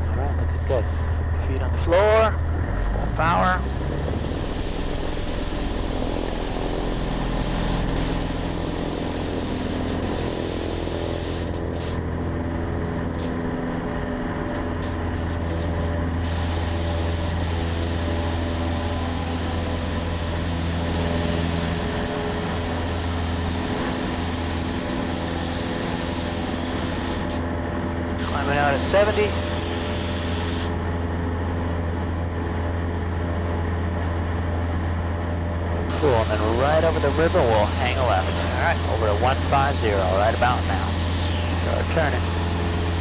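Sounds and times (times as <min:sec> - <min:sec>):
small plane engine and propeller drone: 0:00.0 - 0:43.0.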